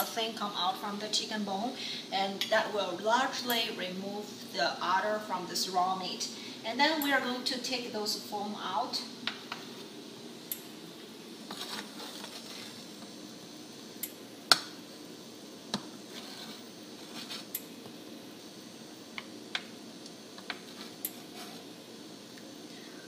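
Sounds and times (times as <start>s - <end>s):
low background noise: 0.0s - 23.0s.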